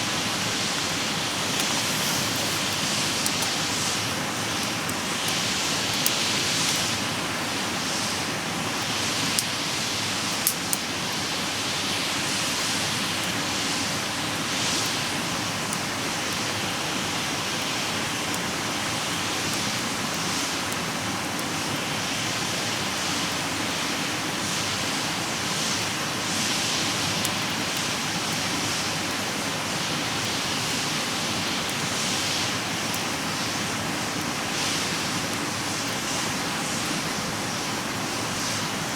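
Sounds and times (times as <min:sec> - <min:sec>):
campfire hissing: 0:00.0 - 0:38.9
fire crackles: 0:00.0 - 0:38.9.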